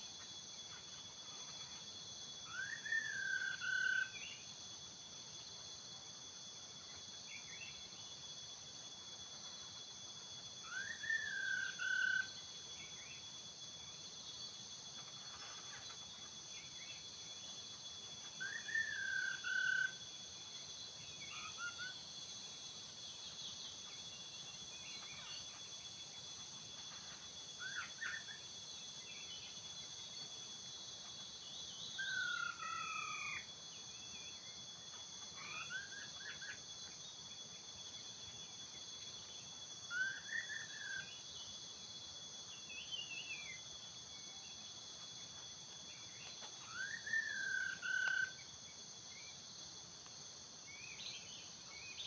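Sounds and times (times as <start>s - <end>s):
high drone of insects: 0.0s - 52.0s.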